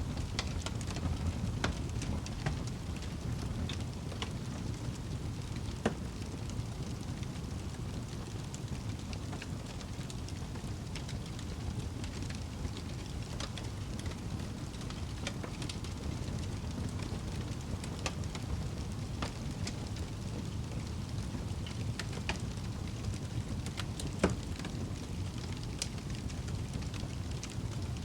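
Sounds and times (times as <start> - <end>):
fire crackling and popping: 0.0 - 28.0
fire rumbling in a fireplace: 0.0 - 28.0.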